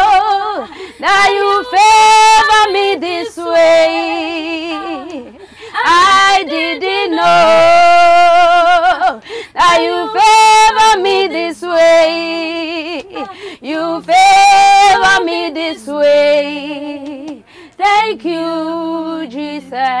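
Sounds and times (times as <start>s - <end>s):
lower voice singing: 0.0s - 20.0s
woman singing gospel: 0.0s - 20.0s.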